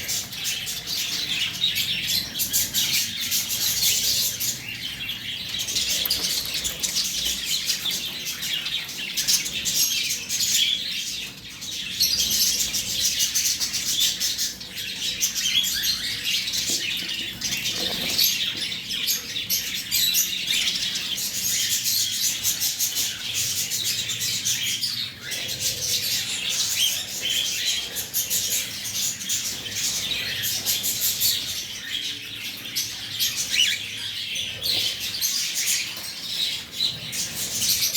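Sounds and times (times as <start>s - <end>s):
birds chirping and chattering: 0.0s - 37.9s.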